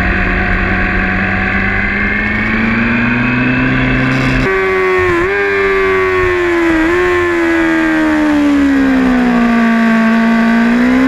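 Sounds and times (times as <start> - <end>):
motorcycle engine pulling away: 0.0 - 11.0.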